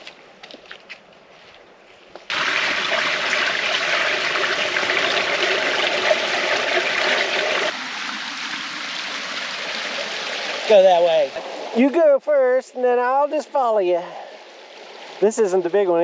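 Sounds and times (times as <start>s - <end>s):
creek water rushing over rocks: 2.3s - 12.1s, 12.8s - 16.0s.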